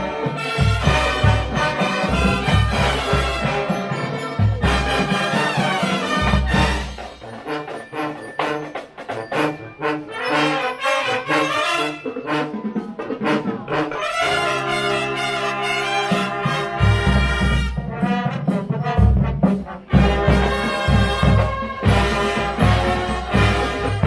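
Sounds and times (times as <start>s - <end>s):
brass bugles playing: 0.0s - 24.0s
drumline playing: 0.0s - 24.0s.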